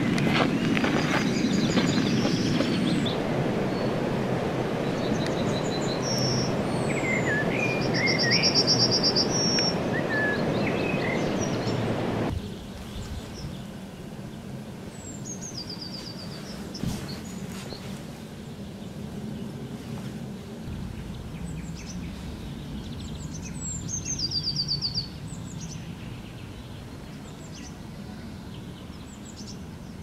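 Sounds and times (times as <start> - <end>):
songbirds singing: 0.0 - 30.0
steady rushing noise: 0.0 - 30.0.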